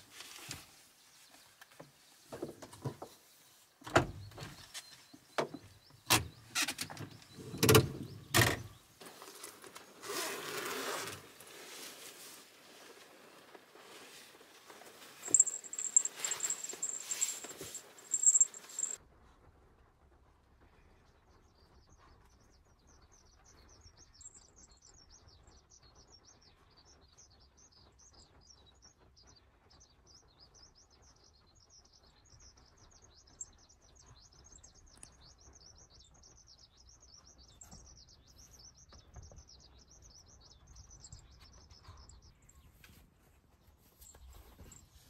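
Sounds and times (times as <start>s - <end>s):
small birds chirping: 0.0s - 10.2s, 11.8s - 19.0s, 21.4s - 45.0s.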